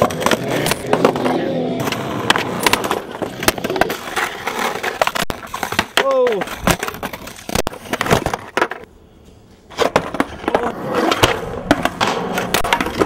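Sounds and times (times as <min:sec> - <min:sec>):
skateboard deck clacks and knocks: 0:00.0 - 0:08.9, 0:09.7 - 0:13.0
skateboard wheels rolling on concrete: 0:00.0 - 0:13.0.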